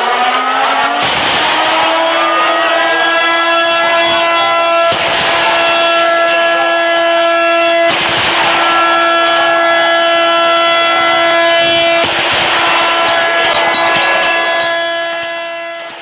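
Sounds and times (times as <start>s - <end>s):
siren at steady pitch: 0.0s - 16.0s.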